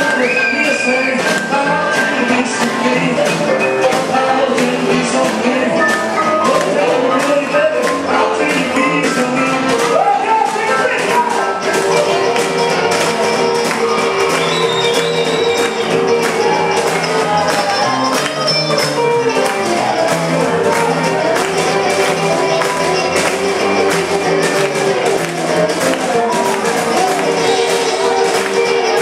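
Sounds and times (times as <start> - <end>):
drum kit: 0.0 - 29.0
electric guitar: 0.0 - 29.0
saxophones: 0.0 - 29.0
upright bass: 0.0 - 29.0.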